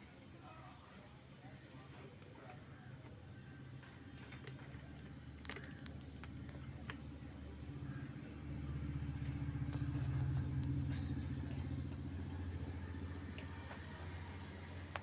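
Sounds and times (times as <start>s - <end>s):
low pulsing rumble from tv speaker: 0.0s - 15.0s.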